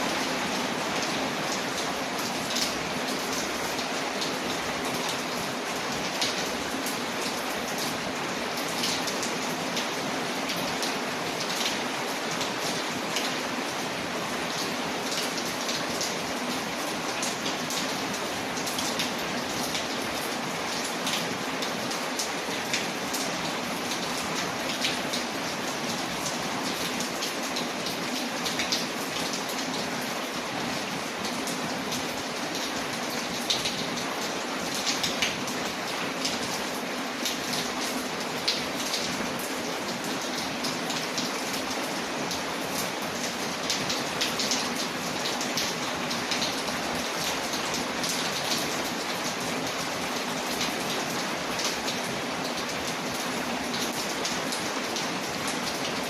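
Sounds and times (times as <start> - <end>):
rain pattering on a window: 0.0 - 56.0.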